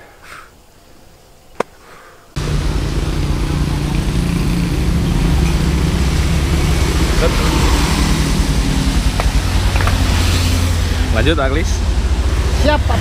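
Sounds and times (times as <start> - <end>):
constant hiss: 0.0 - 12.8
motorcycle engine running: 2.4 - 13.0.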